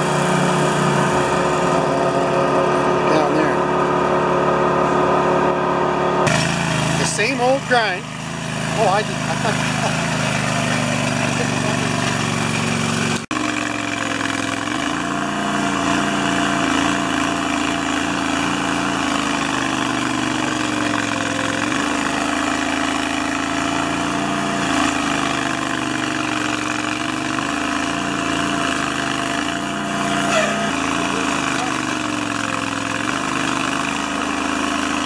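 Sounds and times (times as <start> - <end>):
stump grinder engine running: 0.0 - 35.0.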